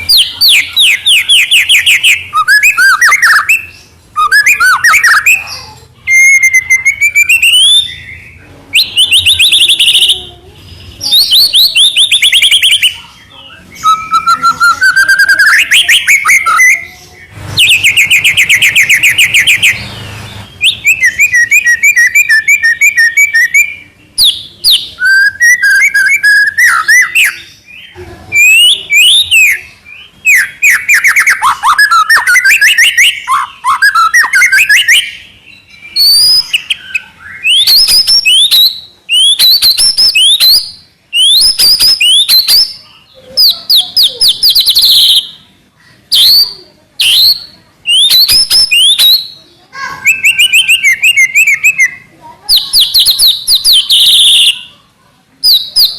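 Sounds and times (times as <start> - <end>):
bird singing trills and whistles: 0.0 - 55.9.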